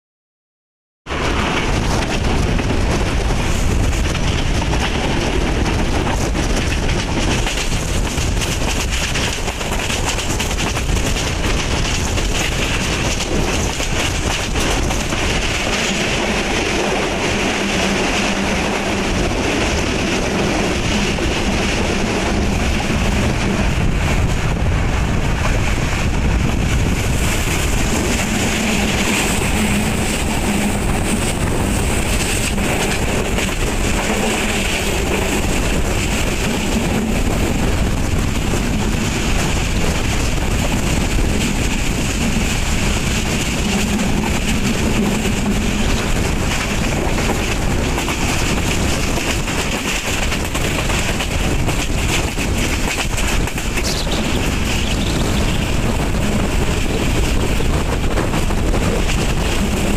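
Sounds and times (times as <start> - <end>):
train wheels rumbling on rails: 1.1 - 59.9.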